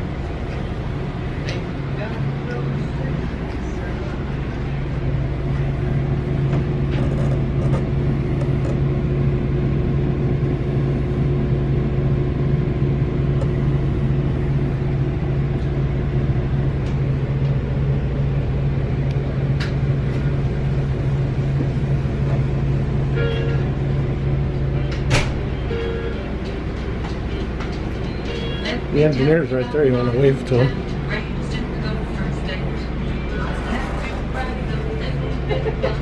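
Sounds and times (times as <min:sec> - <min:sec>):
diesel locomotive engine droning: 0:00.0 - 0:36.0.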